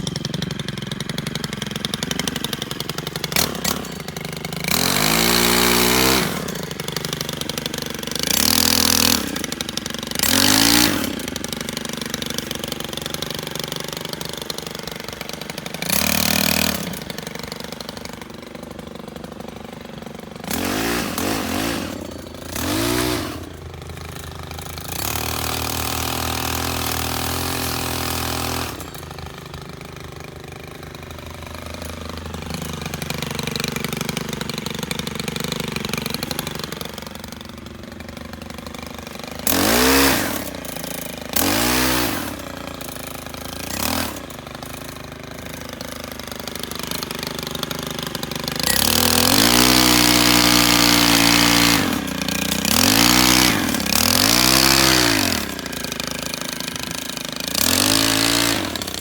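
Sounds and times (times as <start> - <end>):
small engine idling and revving: 0.0 - 59.0.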